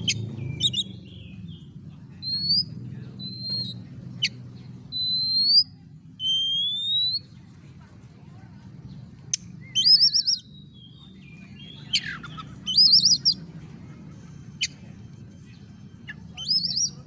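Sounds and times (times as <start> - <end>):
bird chip calls: 0.0 - 7.4, 9.3 - 13.5, 14.1 - 14.9, 15.5 - 17.0
bird warbling song: 0.0 - 7.5, 8.8 - 17.0.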